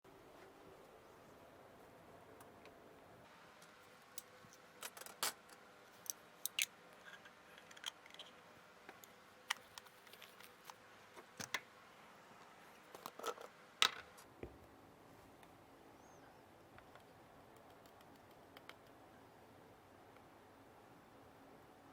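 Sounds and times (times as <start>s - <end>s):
faint background hum: 0.1s - 21.9s.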